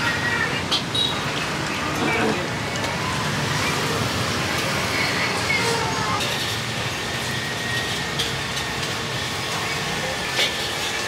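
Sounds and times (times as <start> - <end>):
busy street market noise: 0.0 - 11.0
traffic: 0.0 - 11.0.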